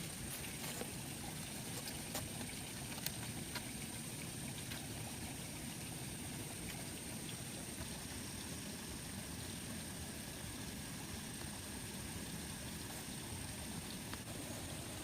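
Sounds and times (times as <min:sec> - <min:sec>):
water flowing: 0:00.0 - 0:15.0.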